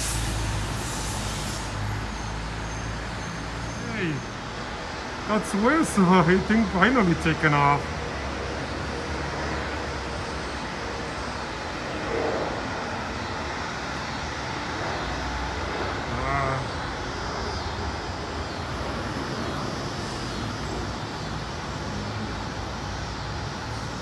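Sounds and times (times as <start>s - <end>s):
distant jet engines: 0.0s - 24.0s
road traffic: 0.0s - 24.0s.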